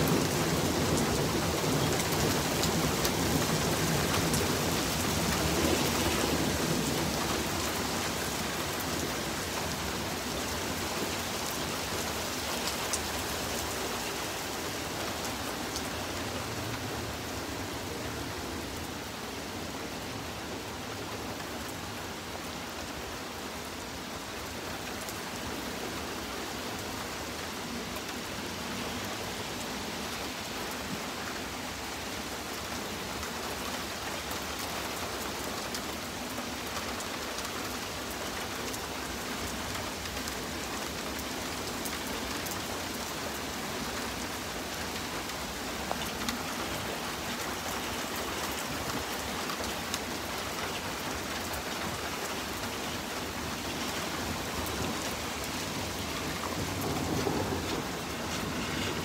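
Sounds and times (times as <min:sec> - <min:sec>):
rain falling on street: 0:00.0 - 0:59.0.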